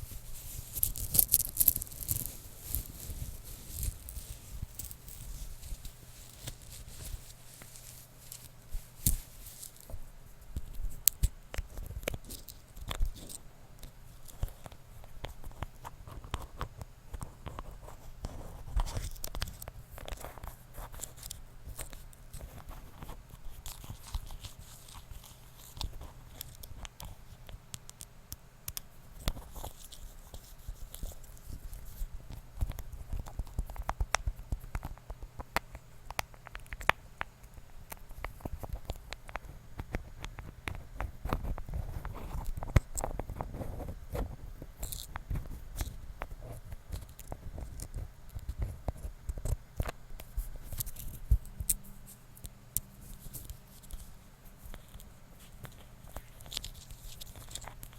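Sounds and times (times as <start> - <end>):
small scratches taps and rustles: 0.0 - 57.9.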